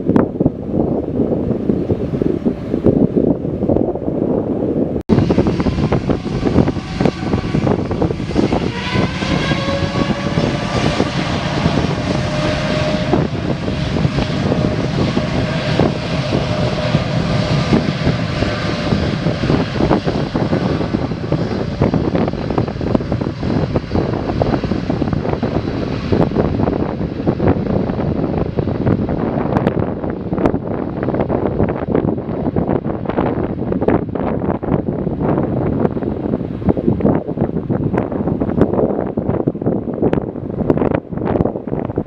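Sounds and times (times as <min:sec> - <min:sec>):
aircraft engines running: 0:00.0 - 0:42.0.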